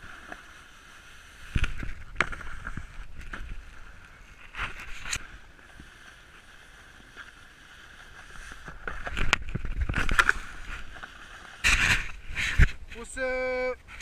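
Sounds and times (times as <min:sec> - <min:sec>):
snowboard scraping over snow: 0:00.0 - 0:13.2.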